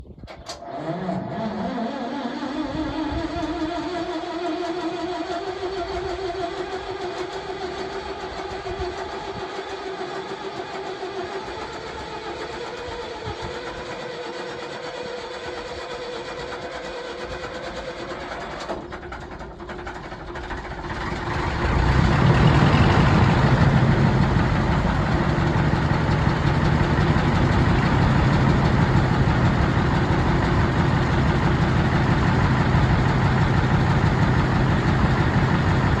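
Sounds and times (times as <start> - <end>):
starter whine: 0.0 - 36.0
diesel engine running: 0.7 - 36.0.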